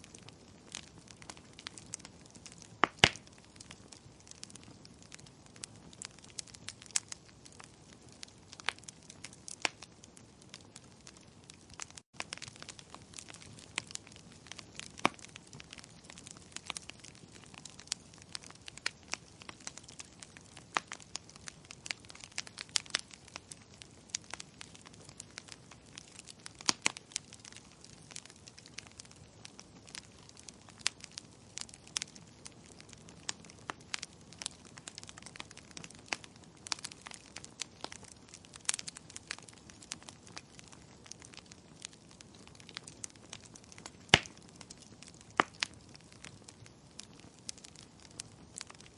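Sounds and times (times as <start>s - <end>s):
firewood crackling and popping: 0.0s - 48.9s
soft hiss of fire: 0.0s - 48.9s.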